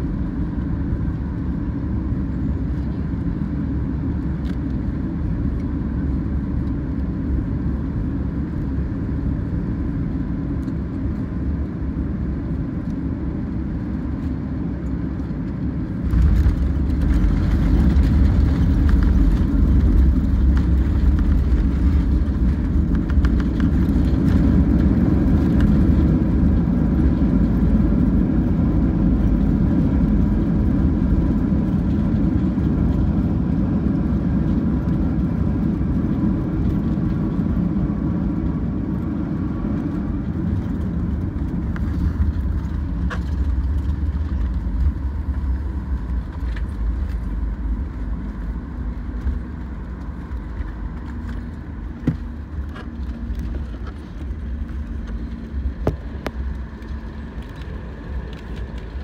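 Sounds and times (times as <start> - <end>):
jet engines and airflow rumble: 0.0 - 59.0.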